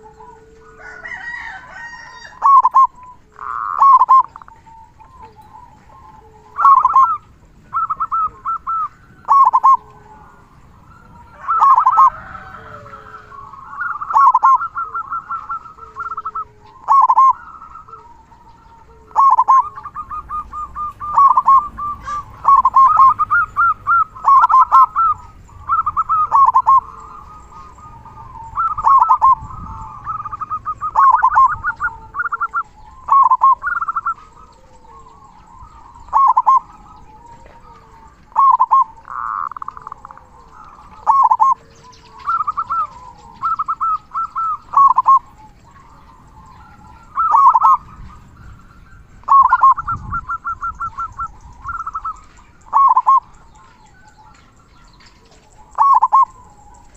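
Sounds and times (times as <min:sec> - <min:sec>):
dove cooing song: 0:00.0 - 0:56.9.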